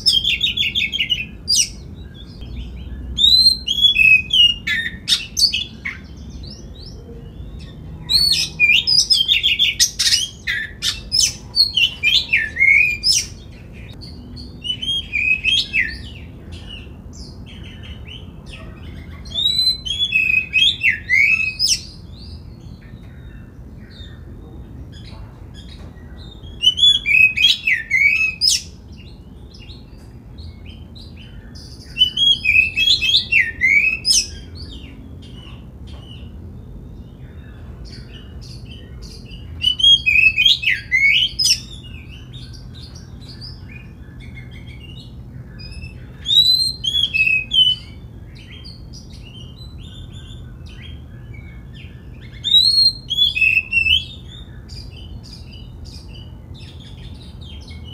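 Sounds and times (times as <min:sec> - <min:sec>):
bird singing whistled phrases: 0:00.0 - 0:16.8, 0:17.6 - 0:22.0, 0:26.2 - 0:28.7, 0:31.9 - 0:35.4, 0:37.9 - 0:57.9.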